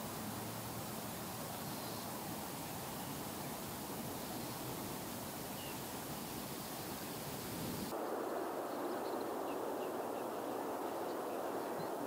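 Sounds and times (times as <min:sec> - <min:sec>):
rushing outdoor ambience: 0:00.0 - 0:12.0.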